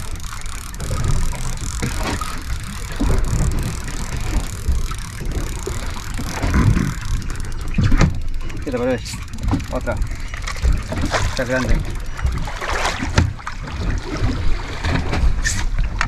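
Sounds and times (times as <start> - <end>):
wind and sea rumble: 0.0 - 16.0.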